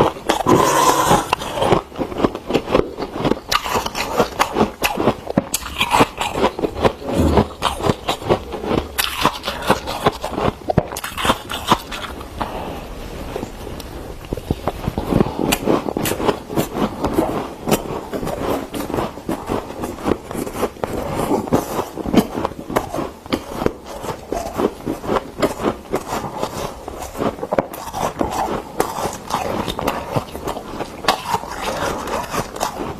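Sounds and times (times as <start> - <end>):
freezer frost crunching: 0.0 - 32.9.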